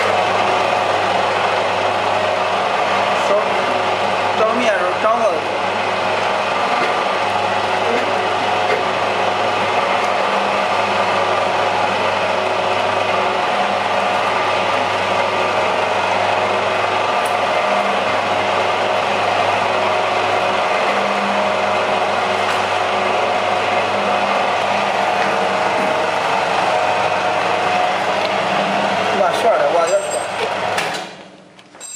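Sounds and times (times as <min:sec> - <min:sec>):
low motor hum: 0:00.0 - 0:31.8.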